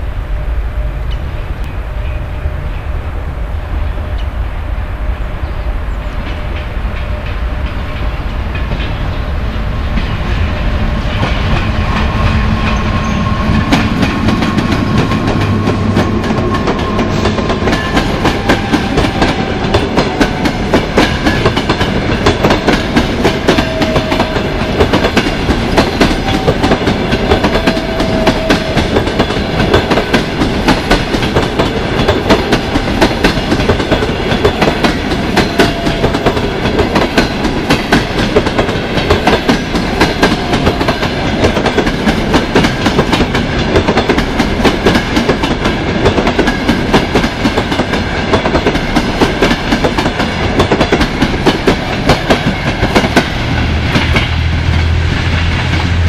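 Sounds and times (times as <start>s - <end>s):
train low rumble: 0.0s - 56.0s
clickety-clack of train wheels: 6.1s - 56.0s.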